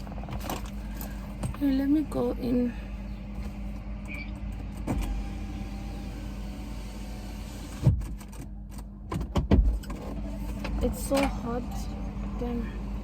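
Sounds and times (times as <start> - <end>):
car engine hum from inside cabin: 0.0 - 13.0.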